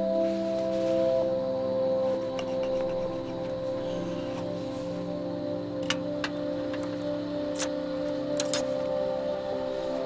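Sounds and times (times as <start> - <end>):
soft music of ringing notes: 0.0 - 10.0.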